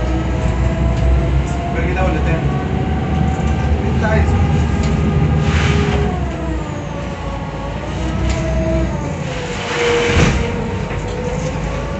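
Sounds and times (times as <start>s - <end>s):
vehicle rumble: 0.0s - 11.9s.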